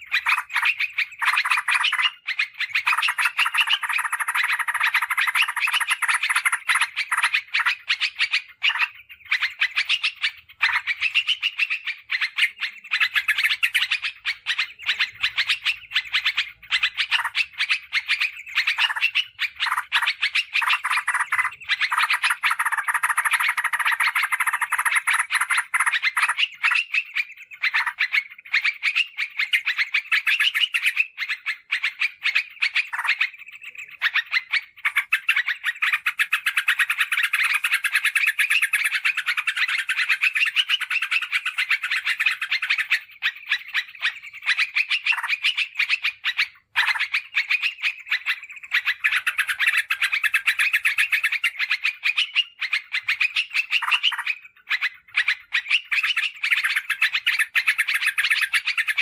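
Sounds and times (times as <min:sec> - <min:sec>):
bulbul chattering trills: 0:00.0 - 0:59.0.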